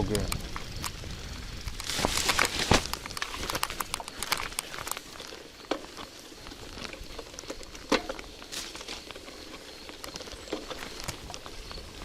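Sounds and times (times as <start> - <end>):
bicycle tyres rolling on wet mud: 0.0 - 12.0
mud and grit crackling: 0.0 - 12.0.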